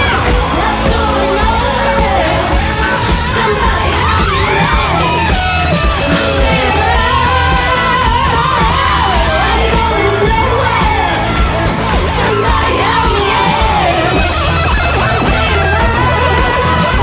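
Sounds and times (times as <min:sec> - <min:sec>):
loud music with low bass: 0:00.0 - 0:17.0
person singing with wavering pitch: 0:00.0 - 0:17.0.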